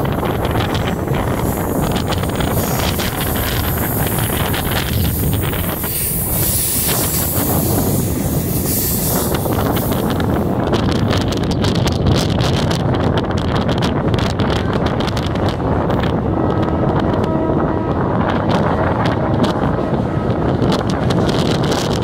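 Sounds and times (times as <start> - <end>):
train running on track: 0.0 - 22.0
wind buffeting microphone: 0.0 - 22.0.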